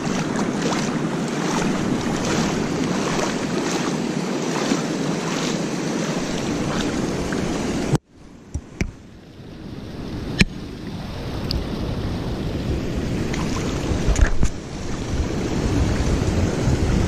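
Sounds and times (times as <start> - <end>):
flowing river water: 0.0 - 17.0
wind buffeting microphone: 0.0 - 17.0.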